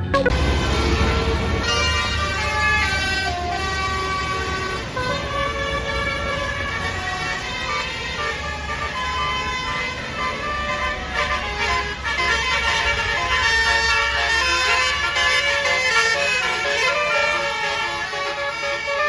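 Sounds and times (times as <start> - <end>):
musical air horn melody: 0.0 - 19.0.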